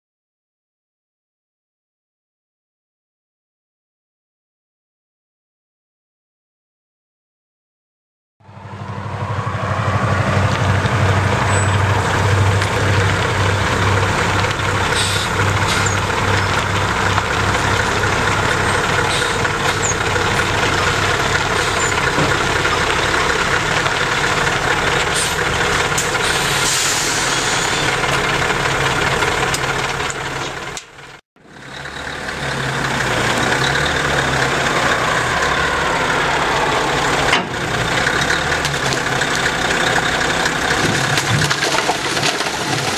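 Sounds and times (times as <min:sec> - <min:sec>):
diesel truck engine running: 0:08.4 - 0:42.9.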